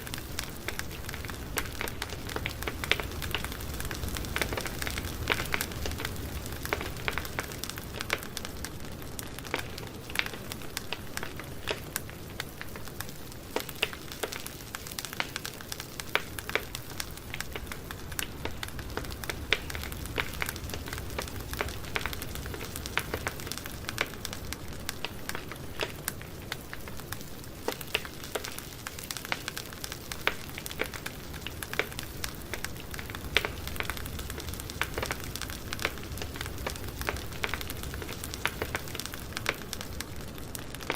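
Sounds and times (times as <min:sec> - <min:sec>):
low rumble of flames: 0:00.0 - 0:40.9
wood crackling and popping: 0:00.0 - 0:40.9.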